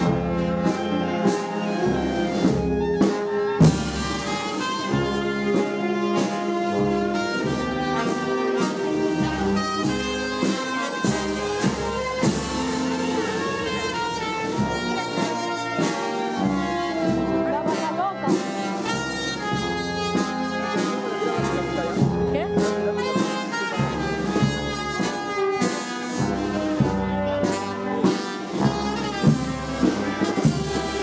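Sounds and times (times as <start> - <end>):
brass band playing: 0.0 - 31.0
drum strikes: 2.4 - 5.6, 7.2 - 31.0.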